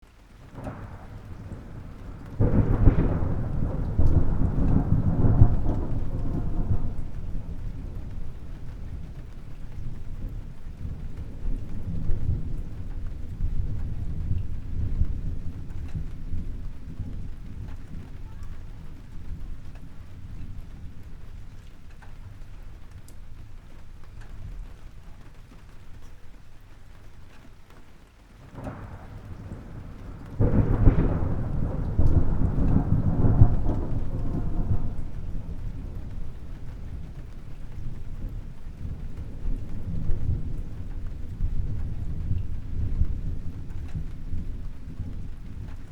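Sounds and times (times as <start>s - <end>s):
steady rain: 0.0s - 45.9s
thunder rumbling: 0.0s - 45.9s.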